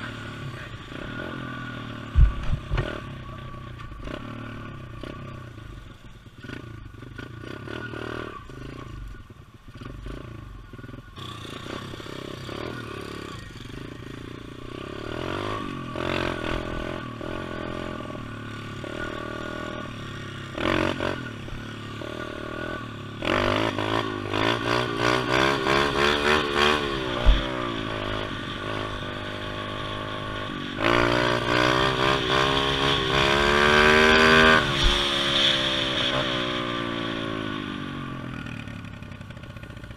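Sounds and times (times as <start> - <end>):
pit bike engine revving: 6.4 - 39.9.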